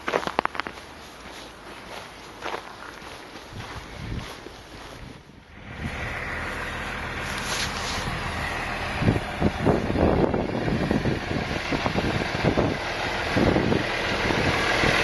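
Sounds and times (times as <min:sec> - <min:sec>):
engine running: 0:00.0 - 0:15.0
rough crackling: 0:00.0 - 0:15.0.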